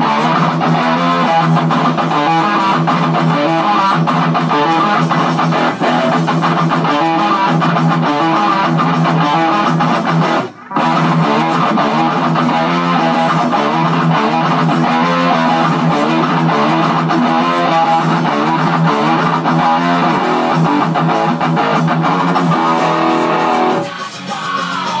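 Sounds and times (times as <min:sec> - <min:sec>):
electric guitar playing: 0:00.0 - 0:25.0.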